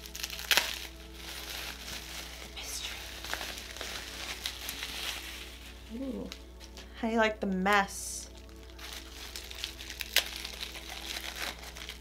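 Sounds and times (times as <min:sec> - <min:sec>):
package wrapping crinkling: 0:00.0 - 0:06.9, 0:07.8 - 0:12.0
soft background music: 0:00.0 - 0:12.0.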